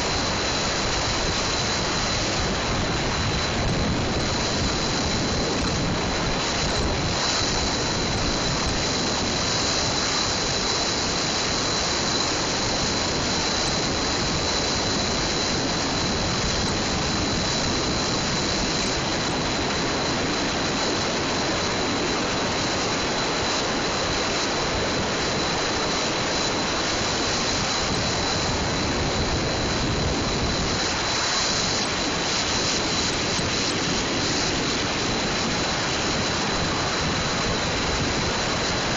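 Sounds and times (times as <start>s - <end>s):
faint high whine: 0.0s - 38.9s
tyre and wind hiss: 0.0s - 38.9s.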